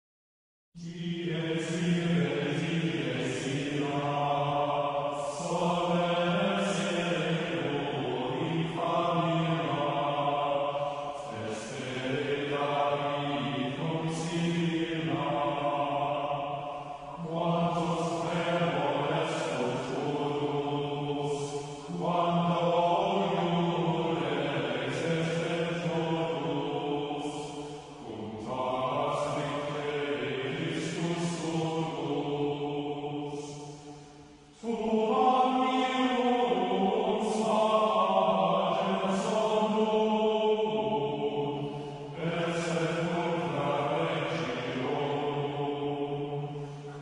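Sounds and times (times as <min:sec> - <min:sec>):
chant singing: 0:00.8 - 0:47.0.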